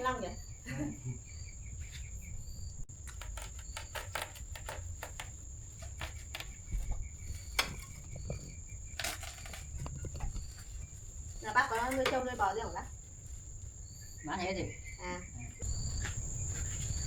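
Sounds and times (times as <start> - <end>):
insect chirps: 0.0 - 17.0.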